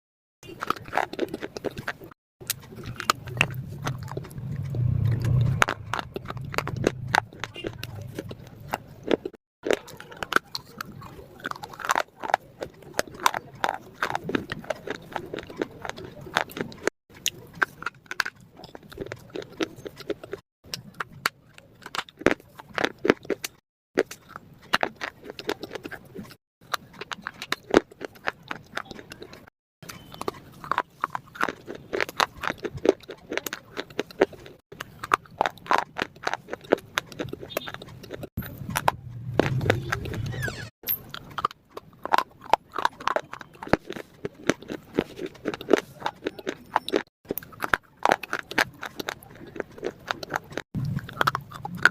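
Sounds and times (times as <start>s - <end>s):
crunching and chewing crisp food: 0.4s - 51.9s.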